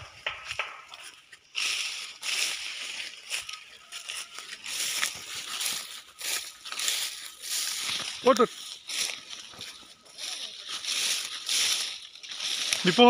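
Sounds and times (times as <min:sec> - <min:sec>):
tall grass rustling underfoot: 0:00.0 - 0:13.0.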